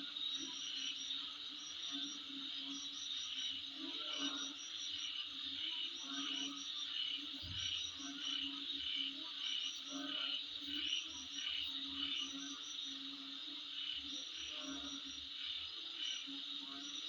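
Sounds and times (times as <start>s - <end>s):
insect chirps: 0.0s - 17.0s
insects buzzing: 0.0s - 17.0s.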